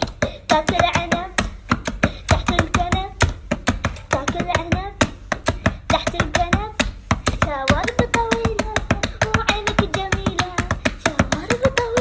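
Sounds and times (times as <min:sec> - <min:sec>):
fast sharp tapping beat: 0:00.0 - 0:12.0.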